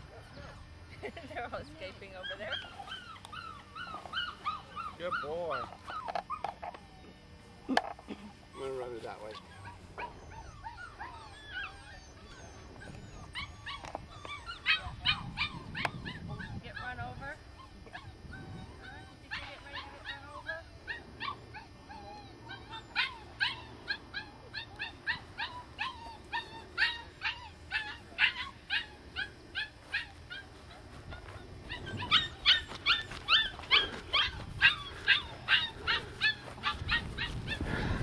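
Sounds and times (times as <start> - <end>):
puppies whimpering and yipping: 0.0 - 38.0.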